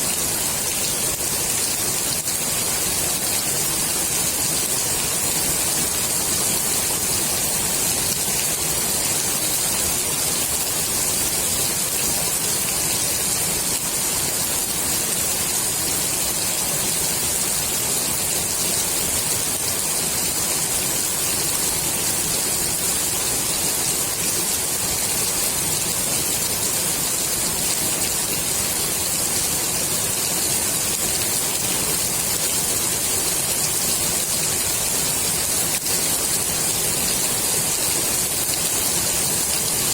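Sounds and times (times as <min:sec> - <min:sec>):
rain falling on a pool: 0:00.0 - 0:39.9.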